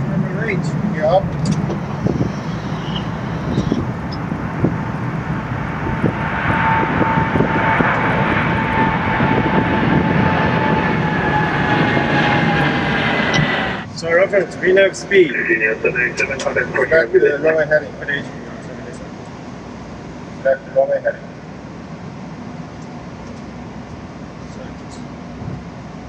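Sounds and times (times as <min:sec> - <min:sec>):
jet engines and airflow: 0:00.0 - 0:26.0.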